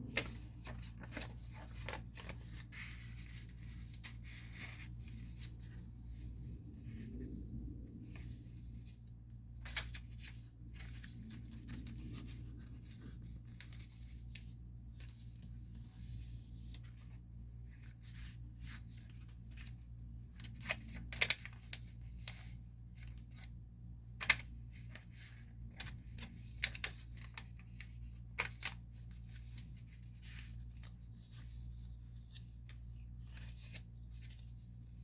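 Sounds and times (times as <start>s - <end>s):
low steady hum: 0.0s - 35.0s
paper rustling: 0.0s - 35.0s.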